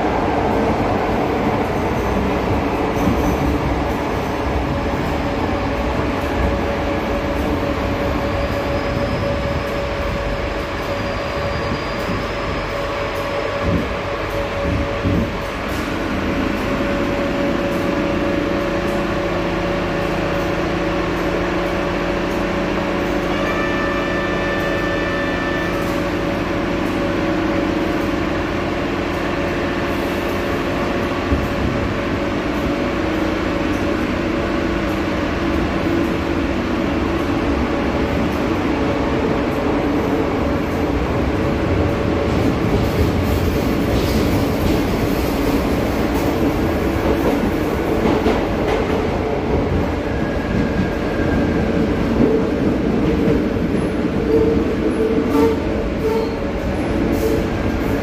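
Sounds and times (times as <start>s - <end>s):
subway train rumbling in tunnel: 0.0s - 58.0s.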